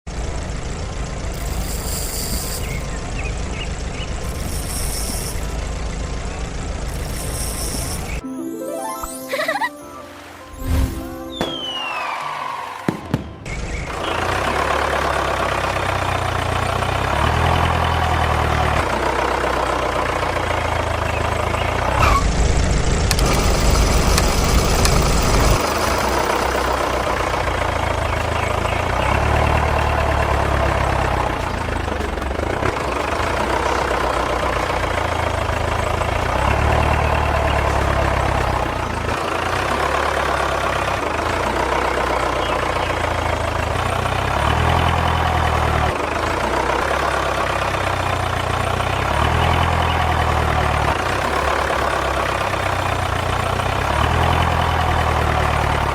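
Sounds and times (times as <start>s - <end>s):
tractor engine running: 0.0s - 8.2s, 11.4s - 55.9s.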